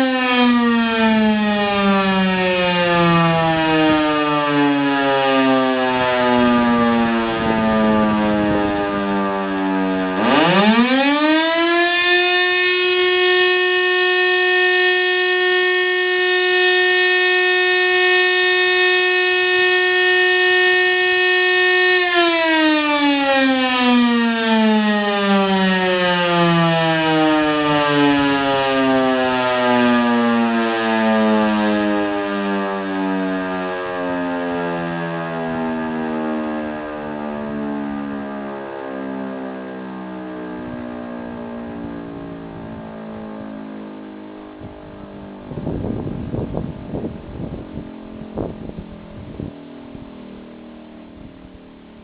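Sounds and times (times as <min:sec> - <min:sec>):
electric fire siren: 0:00.0 - 0:52.0.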